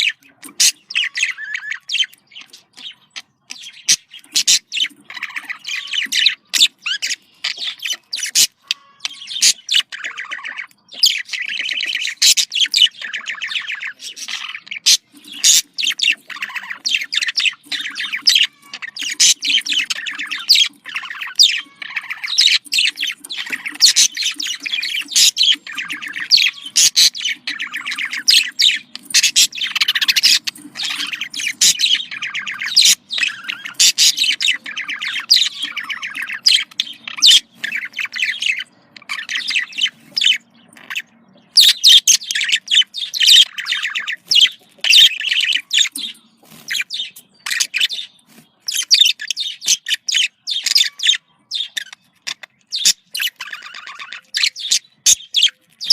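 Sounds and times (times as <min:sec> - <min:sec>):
budgerigar chirping and warbling: 0:00.0 - 0:55.9.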